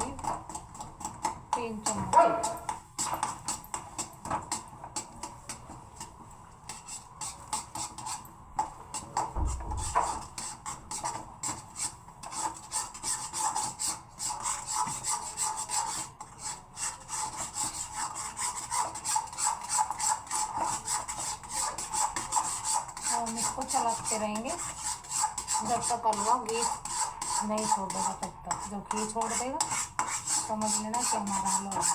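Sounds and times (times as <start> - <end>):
utensil scraping a pan: 0.0 - 31.9.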